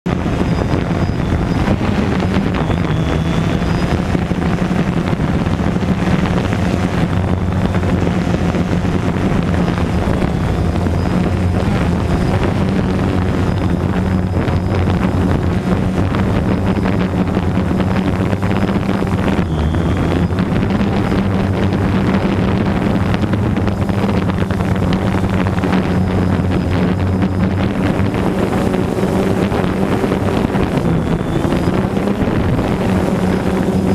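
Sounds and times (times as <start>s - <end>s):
drone motors humming: 0.0s - 33.9s
wind buffeting microphone: 0.0s - 33.9s.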